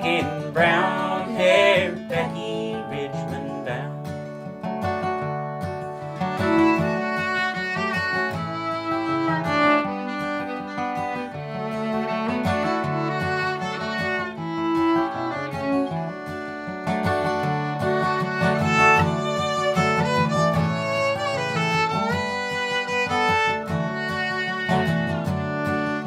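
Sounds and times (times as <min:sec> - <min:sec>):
fiddle melody: 0:00.0 - 0:26.0
strummed acoustic guitar: 0:00.0 - 0:26.0.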